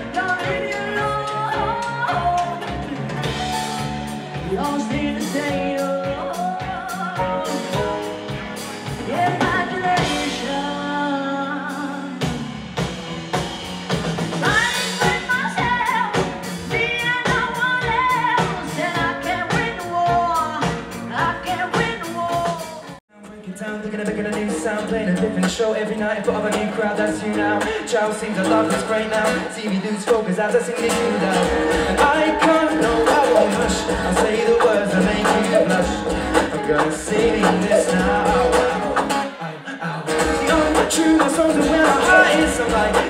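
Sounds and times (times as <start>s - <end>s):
steady drum beat: 0.0s - 10.9s, 11.7s - 23.0s, 27.1s - 39.3s, 40.1s - 43.0s
person singing: 0.0s - 12.9s, 14.4s - 43.0s
band playing a song: 0.0s - 43.0s.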